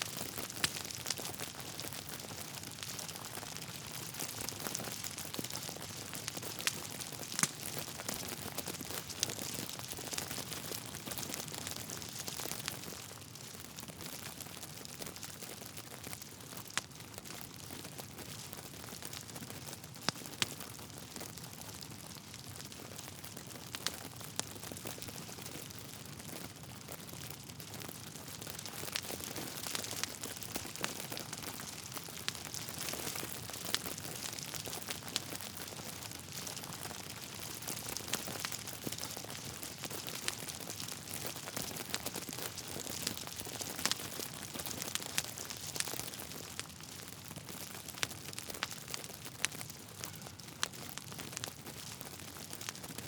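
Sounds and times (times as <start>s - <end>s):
log fire crackling and popping: 0.0s - 53.0s.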